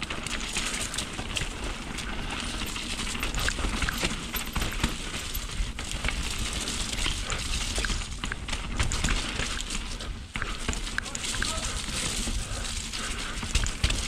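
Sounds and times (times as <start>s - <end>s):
bike chain and frame rattling: 0.0s - 14.0s
bike tyres clattering over rocks: 0.0s - 14.0s.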